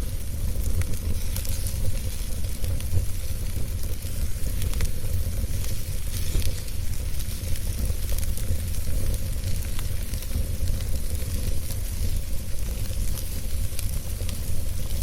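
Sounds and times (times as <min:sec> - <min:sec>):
fire crackling and popping: 0:00.0 - 0:15.0
wood fire burning: 0:00.0 - 0:15.0.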